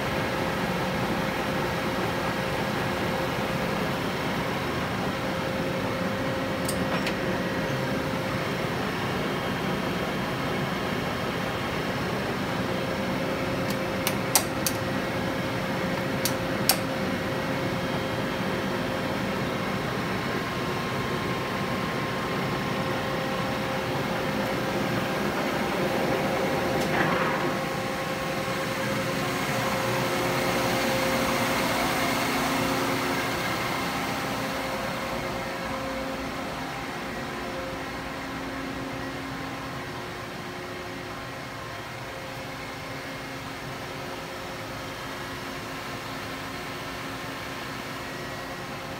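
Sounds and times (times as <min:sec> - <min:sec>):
machinery hum with tones: 0:00.0 - 0:48.9.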